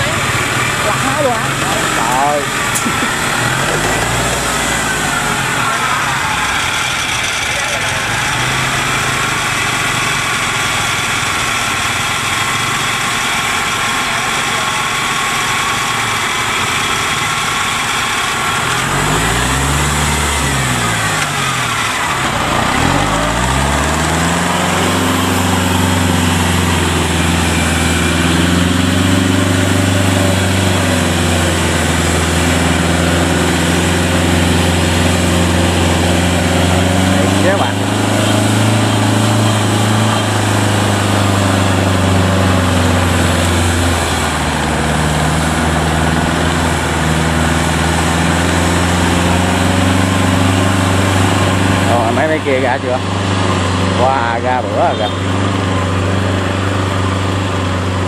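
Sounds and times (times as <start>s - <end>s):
tracked carrier engine running: 0.0s - 58.0s.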